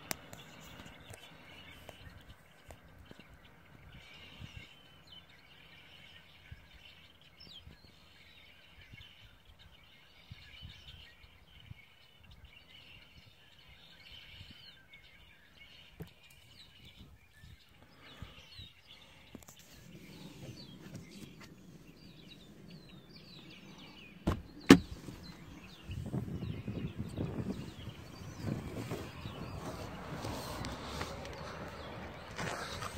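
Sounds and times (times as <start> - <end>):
distant bird chirps: 0.0 - 32.9.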